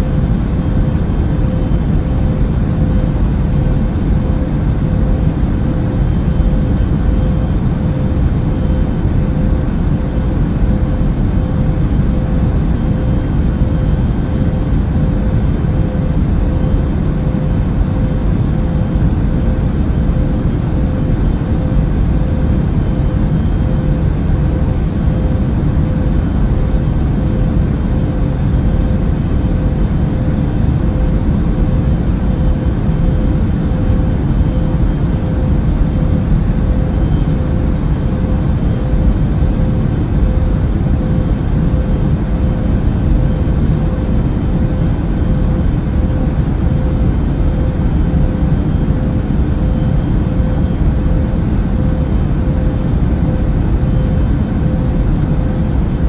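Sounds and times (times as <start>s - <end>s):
airliner engine rumble: 0.0s - 56.0s
mid-pitched hum: 0.0s - 56.0s.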